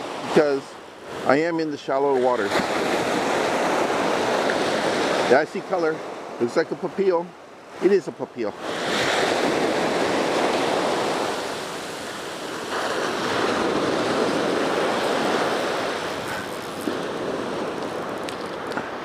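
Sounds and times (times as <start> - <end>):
waves washing up sandy beach: 0.0 - 19.0.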